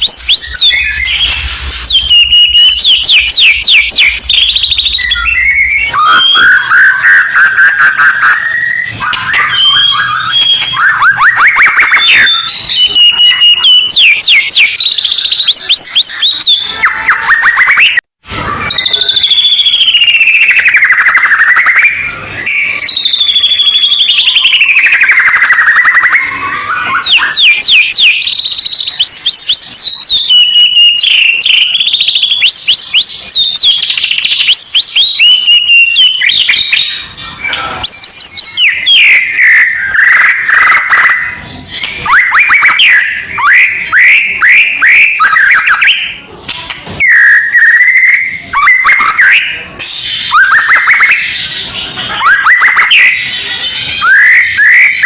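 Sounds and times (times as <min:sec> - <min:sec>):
songbird chirps and whistles: 0:00.0 - 0:55.0.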